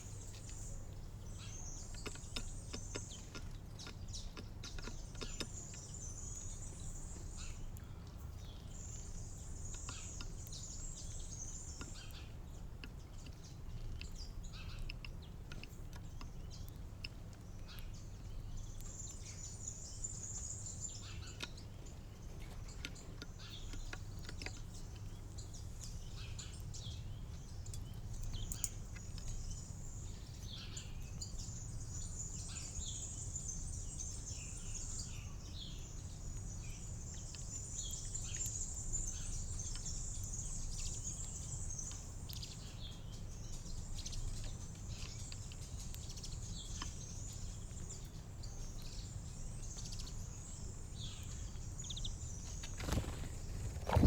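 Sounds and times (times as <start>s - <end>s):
small birds chirping and twittering: 0.0s - 54.0s.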